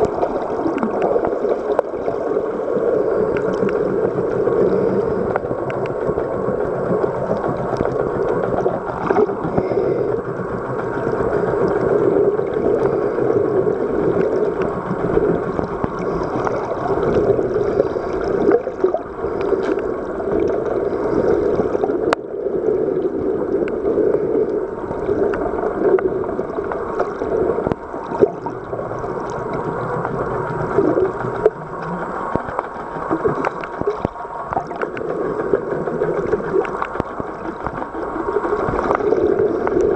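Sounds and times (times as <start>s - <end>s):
muffled underwater rush: 0.0s - 39.9s.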